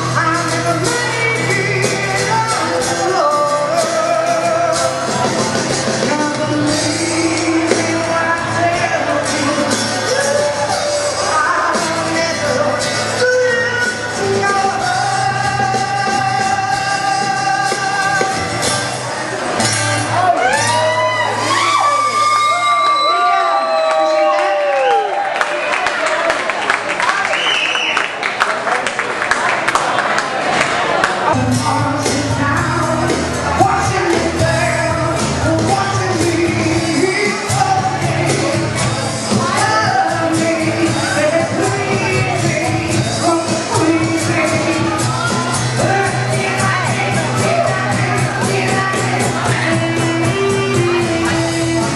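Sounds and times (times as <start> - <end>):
rock and roll music with singer: 0.0 - 24.3, 31.2 - 51.9.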